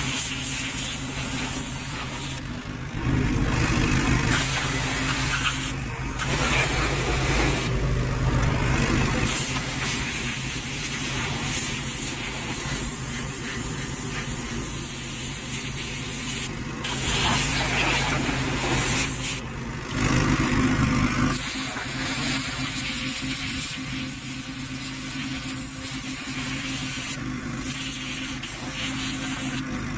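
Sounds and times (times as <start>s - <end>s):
pressure washer jet spraying: 0.0s - 2.5s, 4.2s - 7.8s, 9.1s - 19.5s, 21.4s - 29.6s.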